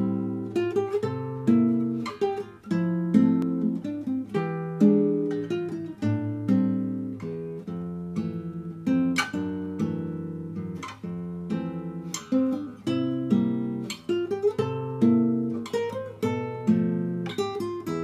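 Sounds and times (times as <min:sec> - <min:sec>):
fingerpicked classical guitar: 0:00.0 - 0:18.0.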